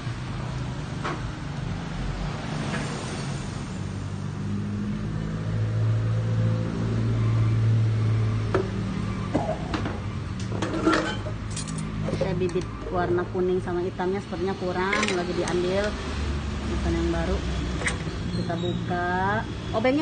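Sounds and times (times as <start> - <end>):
vehicle engine humming: 3.5 - 20.0.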